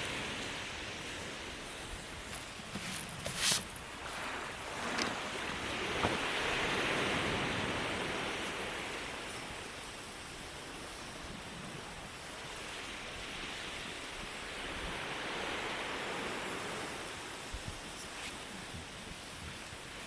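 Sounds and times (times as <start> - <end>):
sea waves washing onto shore: 0.0 - 20.0.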